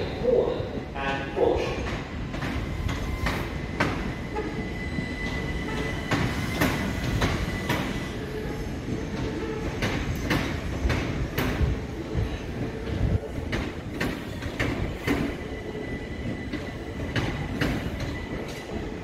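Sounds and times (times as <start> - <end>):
train wheels clicking over rail joints: 1.8 - 19.0.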